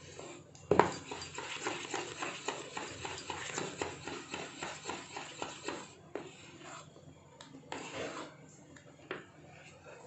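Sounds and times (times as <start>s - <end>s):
spoon stirring batter in metal bowl: 0.0s - 10.0s.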